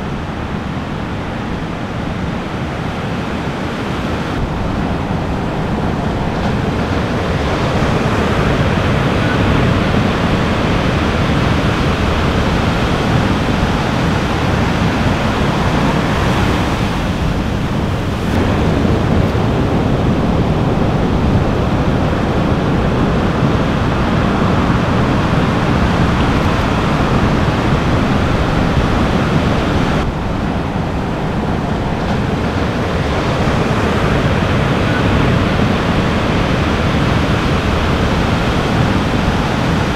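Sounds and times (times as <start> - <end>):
ocean surf breaking: 0.0 - 39.9
wind rumbling on microphone: 0.0 - 39.9.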